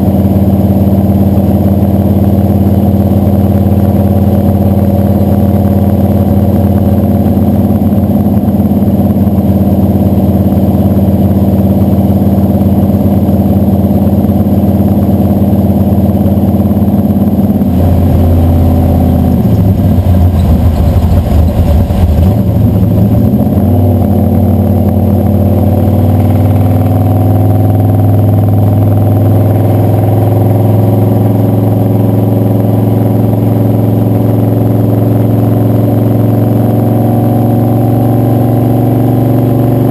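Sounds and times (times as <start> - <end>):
road noise: 0.0 - 39.9
truck engine running: 0.0 - 39.9.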